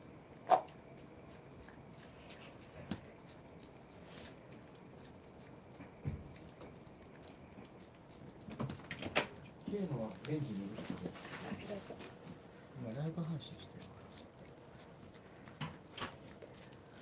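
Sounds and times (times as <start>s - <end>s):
cat licking and lip smacking: 0.0s - 17.0s.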